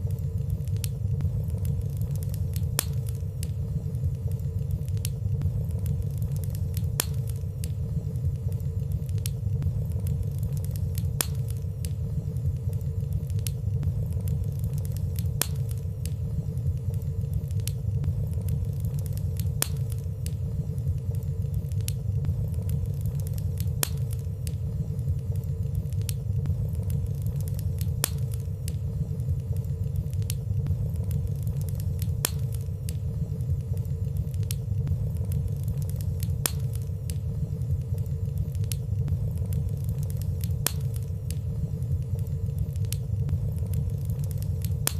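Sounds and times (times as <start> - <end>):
faint fire crackles: 0.0 - 44.9
low rumble of flames: 0.0 - 44.9.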